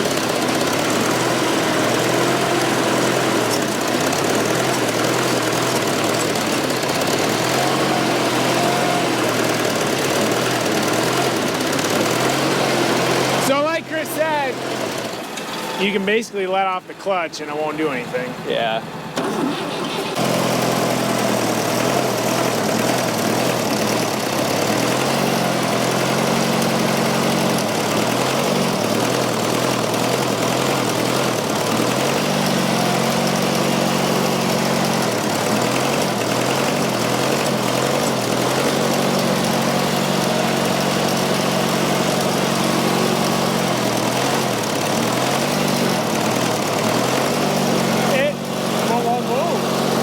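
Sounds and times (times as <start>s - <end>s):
tractor diesel engine running rough: 0.0s - 50.0s.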